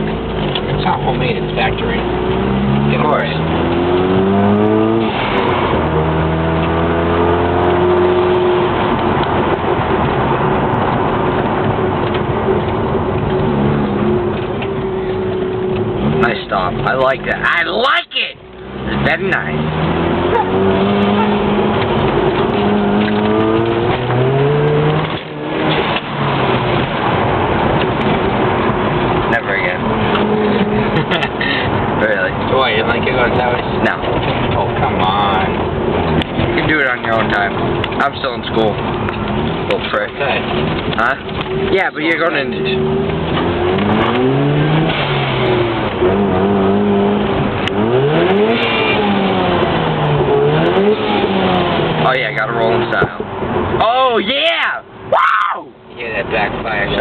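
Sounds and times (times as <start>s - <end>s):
rotary engine revving: 0.0s - 17.6s, 18.4s - 53.6s.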